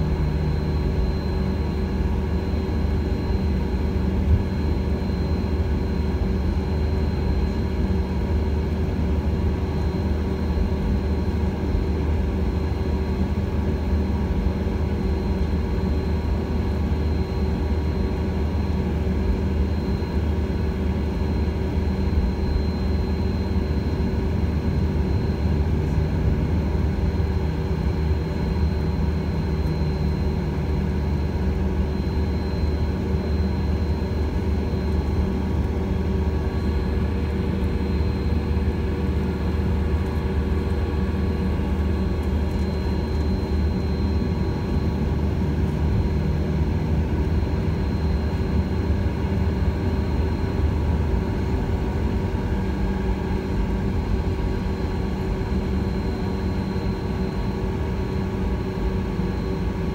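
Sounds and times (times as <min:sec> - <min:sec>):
jet engines humming and rumbling: 0:00.0 - 0:59.9.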